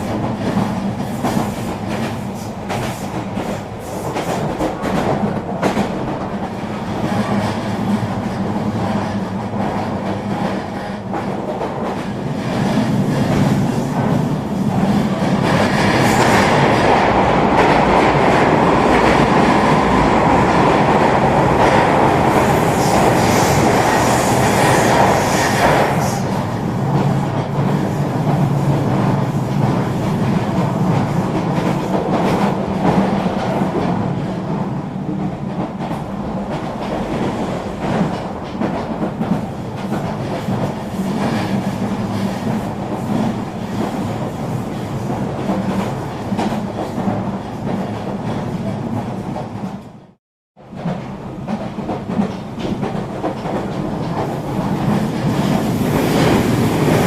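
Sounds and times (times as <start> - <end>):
train rolling noise: 0.0 - 57.0.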